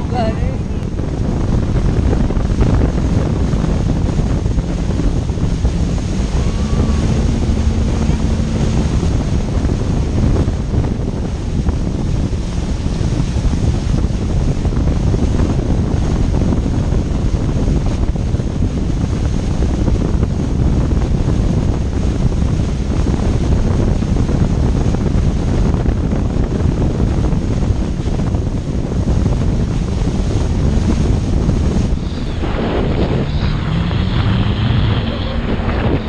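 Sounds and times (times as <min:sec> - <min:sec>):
jet ski engine running: 0:00.0 - 0:36.0
wind buffeting microphone: 0:00.0 - 0:36.0.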